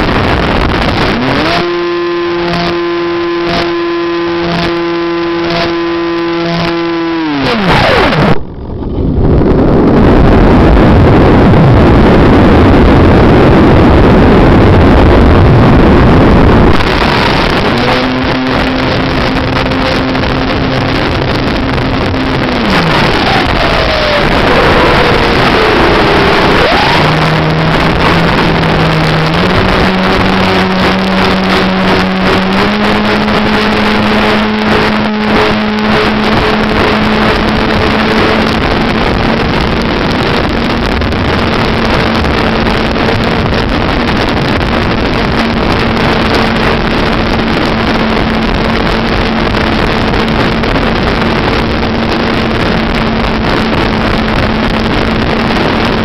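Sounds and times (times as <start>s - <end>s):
electric motor and propeller hum: 0.0s - 10.5s, 15.6s - 52.4s
rushing airflow: 0.0s - 56.0s.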